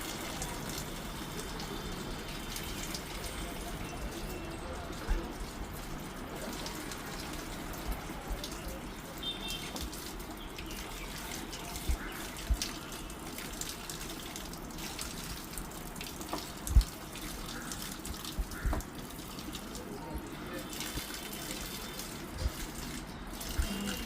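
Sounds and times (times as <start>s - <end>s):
water running: 0.0s - 24.0s.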